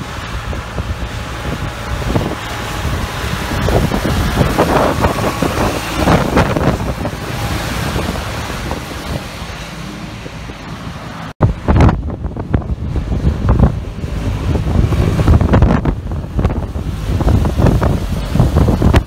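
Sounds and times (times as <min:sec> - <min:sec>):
tractor diesel engine: 0:00.0 - 0:19.0
tyres on wet road: 0:00.0 - 0:19.0
wind on microphone: 0:00.0 - 0:19.0.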